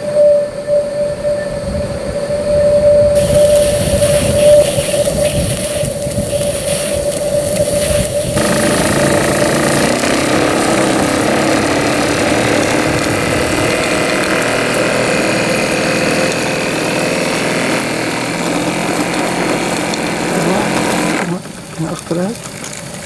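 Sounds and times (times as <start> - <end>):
mechanical hum: 0.0 - 23.0
steam hissing from funnel: 3.2 - 23.0.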